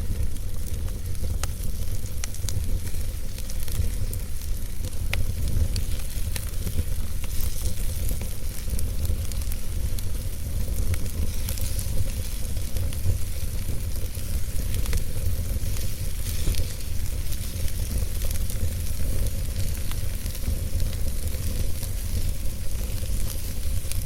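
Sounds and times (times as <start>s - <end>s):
fire rumbling and hissing: 0.0s - 24.0s
logs crackling and popping: 0.0s - 24.0s.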